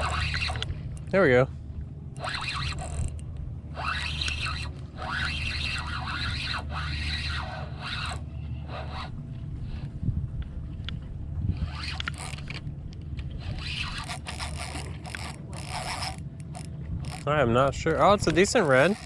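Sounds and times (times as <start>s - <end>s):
fishing reel whirring: 0.0s - 1.1s, 2.1s - 9.9s, 11.5s - 19.0s.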